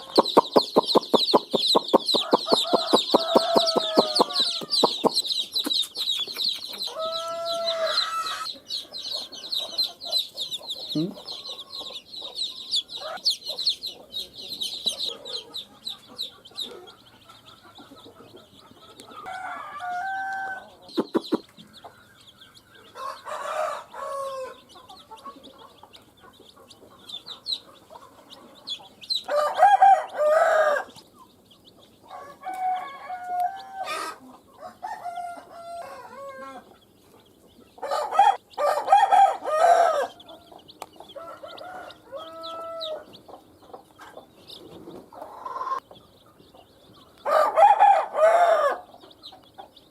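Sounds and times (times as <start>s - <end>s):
baby chicks peeping: 0.0s - 49.9s
chickens clucking: 0.0s - 49.9s.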